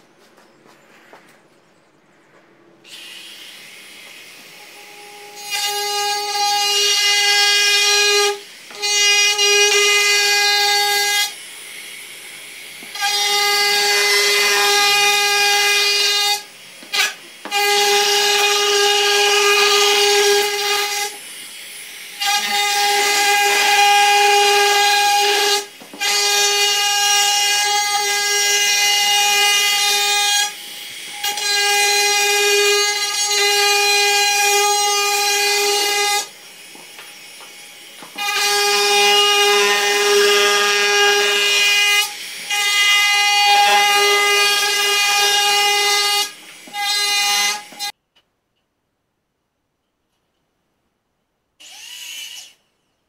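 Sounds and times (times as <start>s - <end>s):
trim router whining: 2.8s - 47.9s, 51.6s - 52.6s.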